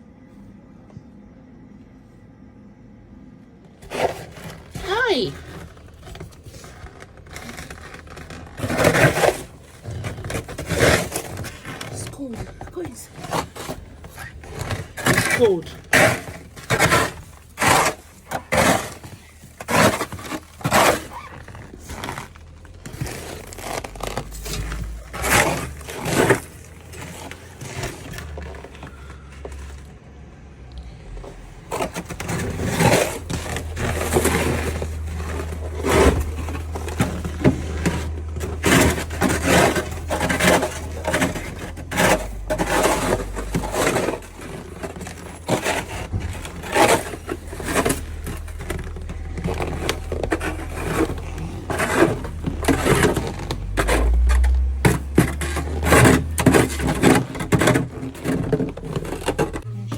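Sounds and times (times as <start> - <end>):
snow shovel scraping snow: 3.8 - 29.7, 31.3 - 59.6.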